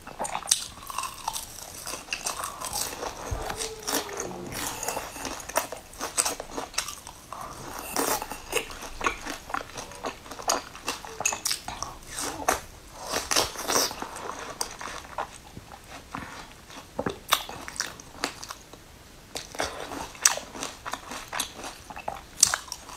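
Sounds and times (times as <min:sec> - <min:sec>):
wet chewing: 0:00.0 - 0:18.6.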